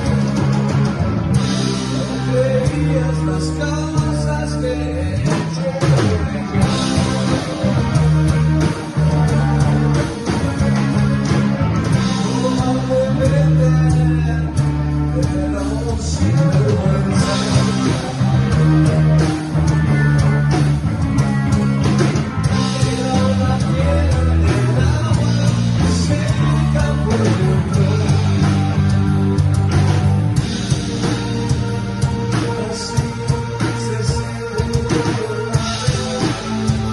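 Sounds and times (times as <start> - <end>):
rock song with guitar and singing: 0.0 - 36.9.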